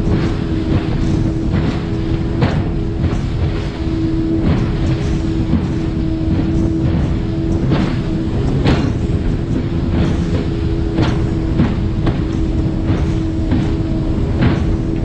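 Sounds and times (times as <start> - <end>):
boat engine drone: 0.0 - 15.0
hull slapping waves: 0.0 - 15.0
rushing water: 0.0 - 15.0.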